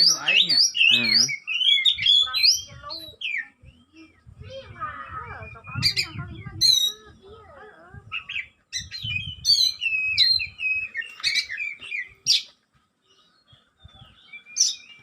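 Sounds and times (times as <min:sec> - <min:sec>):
bird singing whistled notes: 0:00.0 - 0:07.3, 0:08.1 - 0:12.5, 0:13.1 - 0:15.0.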